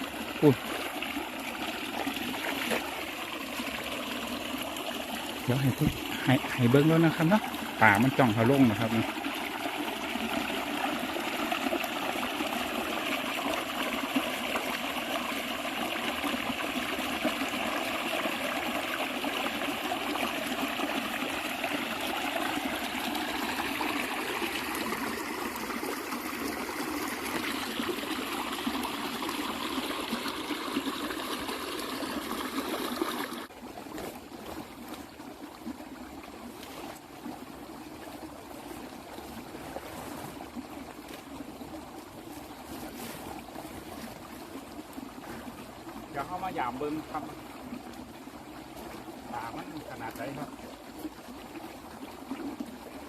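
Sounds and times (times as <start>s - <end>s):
water flowing and trickling: 0.0s - 53.0s.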